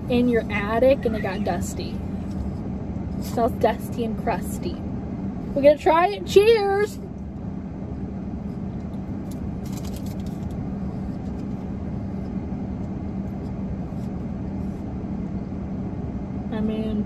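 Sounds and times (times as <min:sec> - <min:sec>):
car cabin hum and drone: 0:00.0 - 0:17.0.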